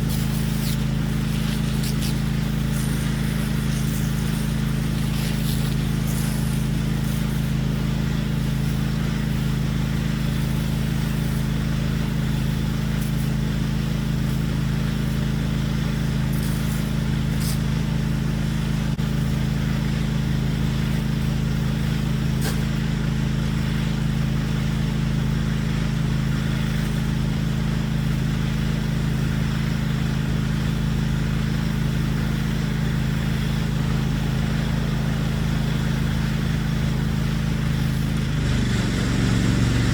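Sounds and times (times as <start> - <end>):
pressure washer engine drone: 0.0 - 39.9.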